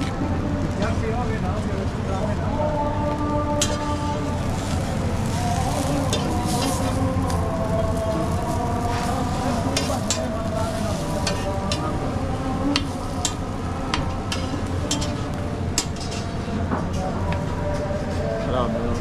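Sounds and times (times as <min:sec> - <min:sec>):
food frying on a griddle: 0:00.0 - 0:18.1.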